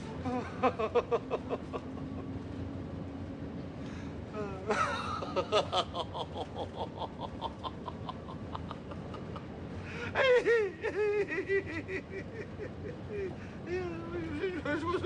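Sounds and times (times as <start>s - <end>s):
person laughing: 0.2s - 2.4s, 4.4s - 15.0s.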